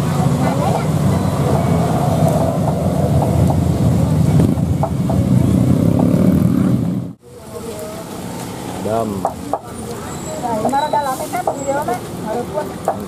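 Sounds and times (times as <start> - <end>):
bus engine rumbling: 0.0 - 13.0
motorcycles: 0.0 - 13.0
road traffic: 0.0 - 13.0.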